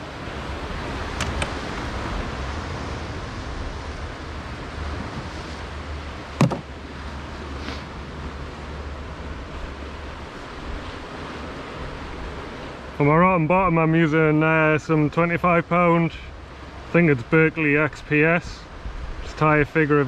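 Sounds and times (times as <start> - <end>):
sea surf on rocky shore: 0.0 - 20.0.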